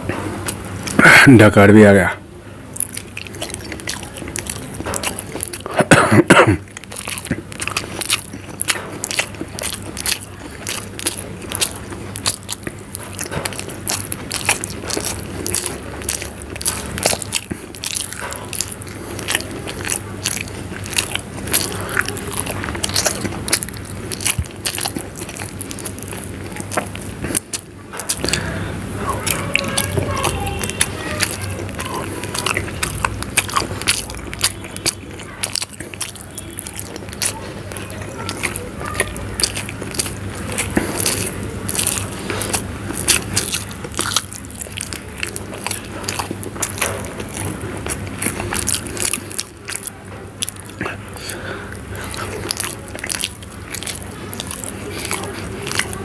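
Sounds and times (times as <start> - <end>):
chewing and biting food: 0.0 - 56.0
wet mouth clicks and smacks: 2.7 - 5.9, 6.6 - 56.0.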